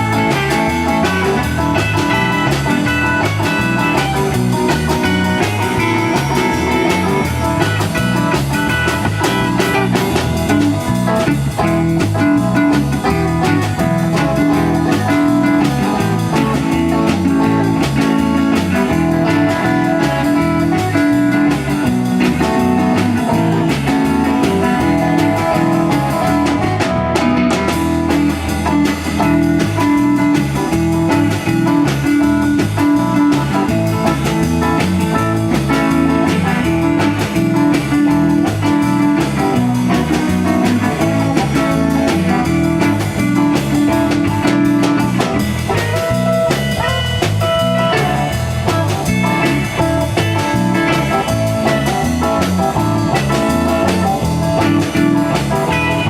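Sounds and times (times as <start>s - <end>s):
blues-rock guitar: 0.0s - 56.0s
drum kit: 0.0s - 56.0s.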